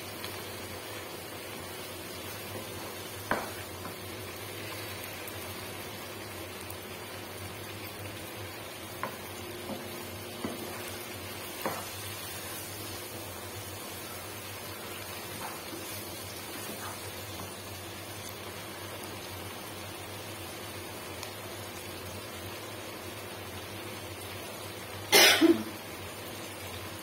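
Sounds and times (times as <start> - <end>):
vegetables sizzling in a wok: 0.0 - 27.0.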